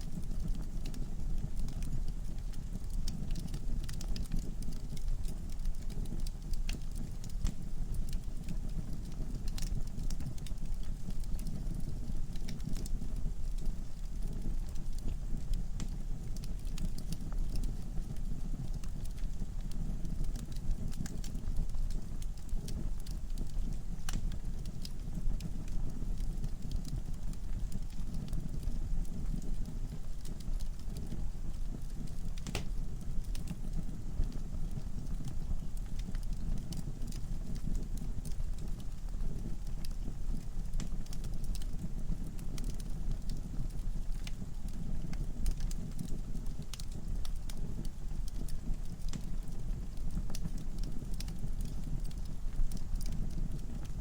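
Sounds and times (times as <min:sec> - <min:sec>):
logs burning and crackling: 0:00.1 - 0:54.0.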